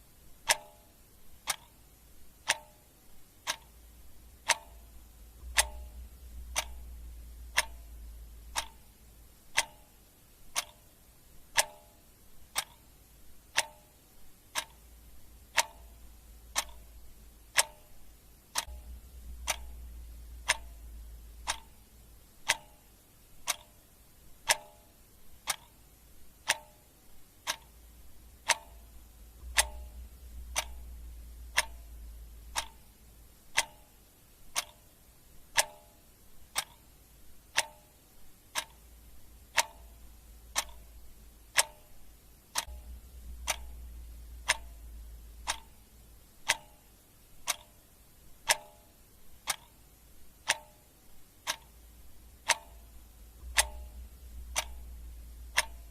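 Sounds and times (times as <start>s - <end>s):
clock ticking: 0.0s - 55.9s.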